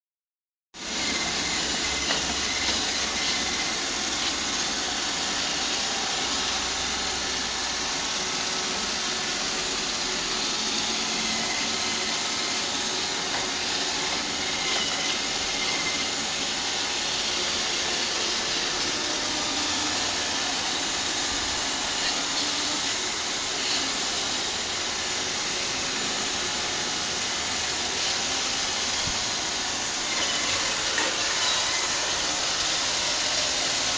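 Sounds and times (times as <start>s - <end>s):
robot vacuum whirring: 0.8s - 33.9s.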